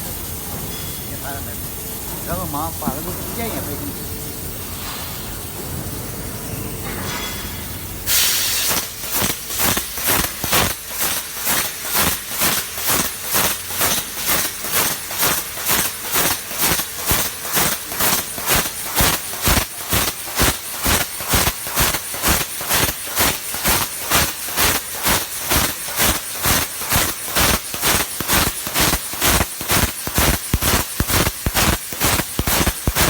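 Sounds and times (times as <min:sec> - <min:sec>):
laser cutter pulsing gas hiss: 0:00.0 - 0:06.6, 0:07.3 - 0:33.0.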